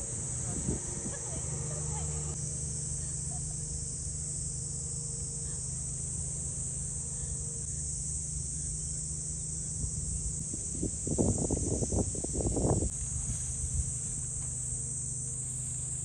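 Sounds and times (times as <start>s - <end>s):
insect chorus shrilling: 0.0s - 16.0s
low uneven rumble: 0.0s - 16.0s.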